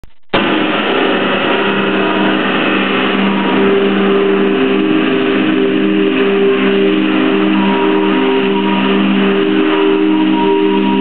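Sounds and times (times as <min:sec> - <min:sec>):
amplified guitar drone music: 0:00.3 - 0:11.0.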